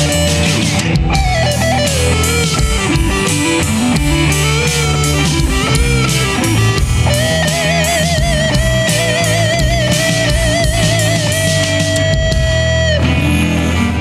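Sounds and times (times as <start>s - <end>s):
bass guitar: 0.0s - 14.0s
drums: 0.0s - 14.0s
electric guitar lead: 0.0s - 14.0s.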